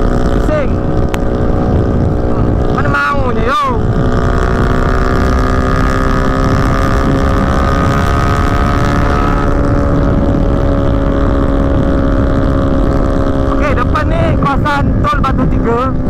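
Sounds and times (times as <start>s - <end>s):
motorcycle engine cruising: 0.0s - 16.0s
wind rushing over microphone: 0.0s - 16.0s.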